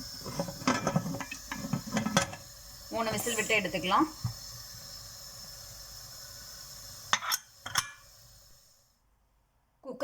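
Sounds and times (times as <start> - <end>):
pressure cooker steam hiss: 0.0 - 9.1.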